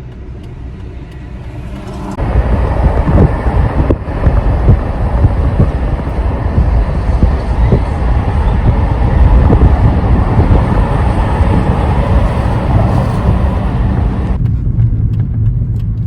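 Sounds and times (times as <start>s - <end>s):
wind noise on microphone: 1.3s - 16.0s
car road rumble: 1.4s - 16.0s.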